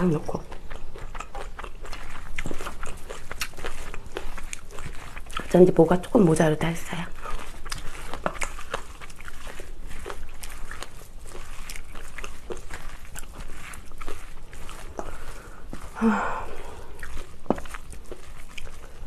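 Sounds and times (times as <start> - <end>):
spoon stirring sticky rice: 0.7 - 19.0.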